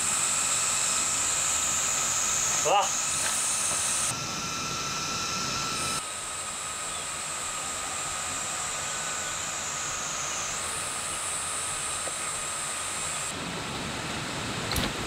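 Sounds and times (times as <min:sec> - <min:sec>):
faint high whine: 0:00.0 - 0:15.0
high outdoor hiss: 0:00.0 - 0:15.0.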